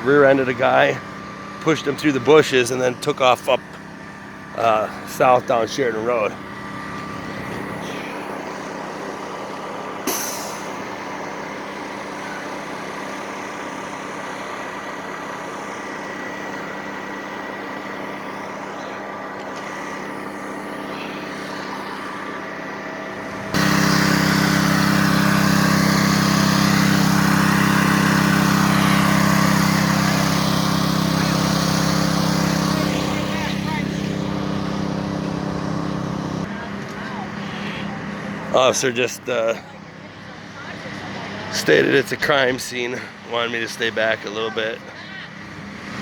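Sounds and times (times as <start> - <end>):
truck engine idling: 0.0 - 46.0.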